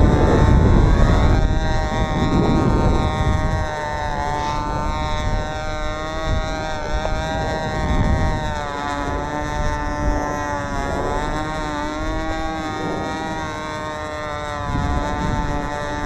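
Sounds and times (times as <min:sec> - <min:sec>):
model airplane engine whine: 0:00.0 - 0:16.0
wind buffeting microphone: 0:00.0 - 0:16.0.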